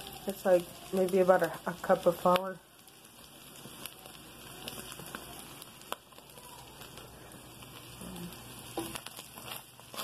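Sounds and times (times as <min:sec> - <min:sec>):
sausage sizzling in a pan: 0:00.0 - 0:10.0
sharp pops of frying fat: 0:00.0 - 0:10.0.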